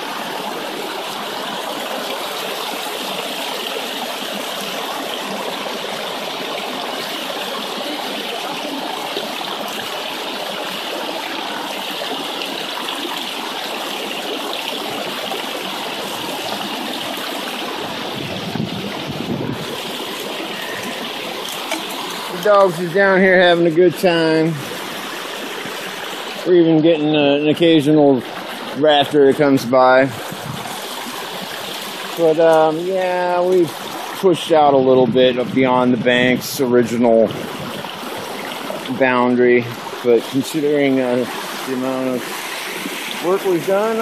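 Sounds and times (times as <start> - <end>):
water rushing down metal sluice: 0.0 - 44.0.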